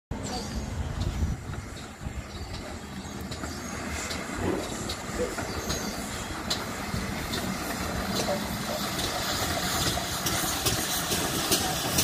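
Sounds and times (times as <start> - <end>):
steam train rumbling on track: 0.1 - 12.0
sharp track clicks: 0.9 - 12.0.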